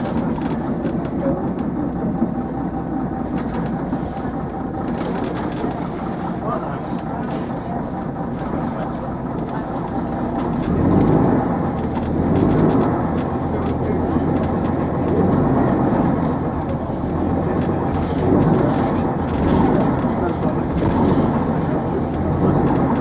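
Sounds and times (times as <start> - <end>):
bus engine and road noise: 0.0 - 23.0.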